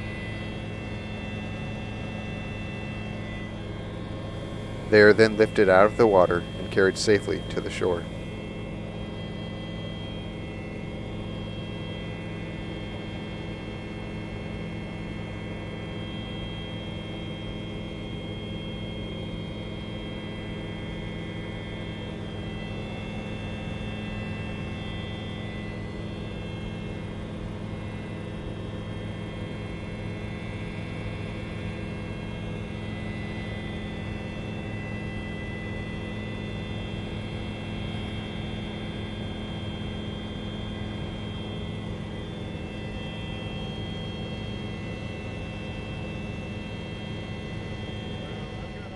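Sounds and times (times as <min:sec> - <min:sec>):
helicopter drone: 0:00.0 - 0:48.9.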